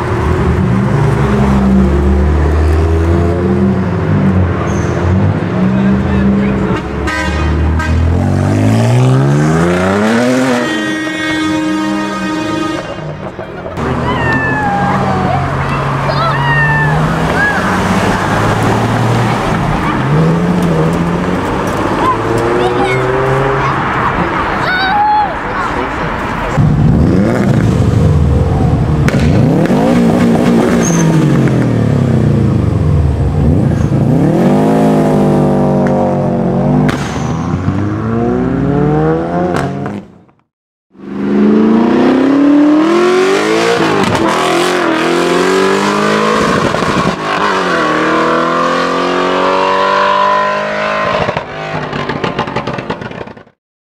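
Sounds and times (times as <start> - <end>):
car engines accelerating hard: 0.0 - 24.7, 25.4 - 40.2, 41.0 - 53.4.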